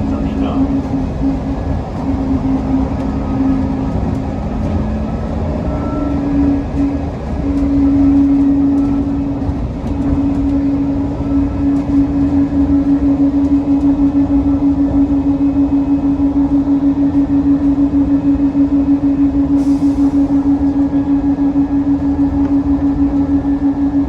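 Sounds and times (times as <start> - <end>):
train humming tone: 0.0 - 24.0
train low rumble: 0.0 - 24.0.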